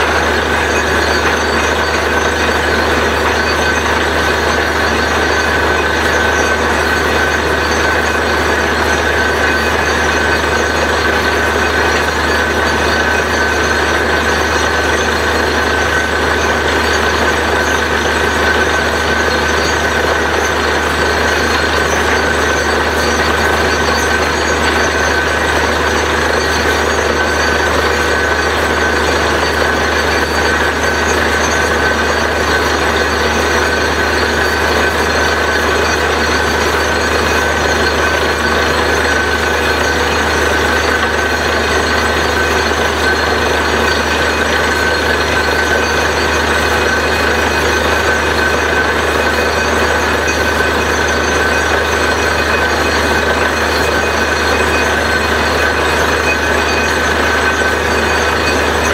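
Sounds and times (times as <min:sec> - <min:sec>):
drilling rig engine droning: 0:00.0 - 0:58.9.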